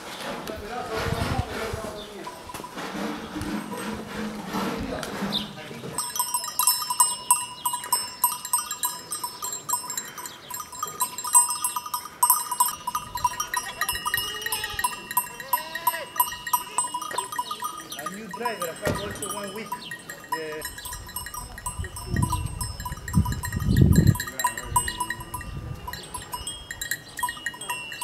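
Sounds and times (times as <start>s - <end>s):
sheep bells clanking: 2.2s - 4.2s, 6.0s - 28.0s.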